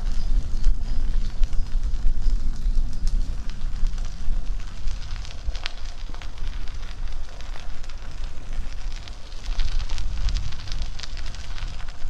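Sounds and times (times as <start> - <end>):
bicycle tyres crunching on gravel: 0.0 - 12.0
wind buffeting microphone: 0.0 - 12.0.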